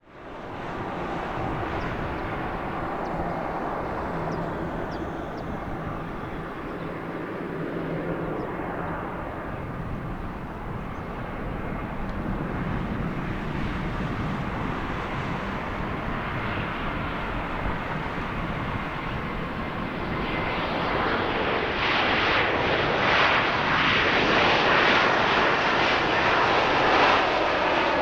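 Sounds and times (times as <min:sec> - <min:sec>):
jet engines running: 0:00.1 - 0:28.0.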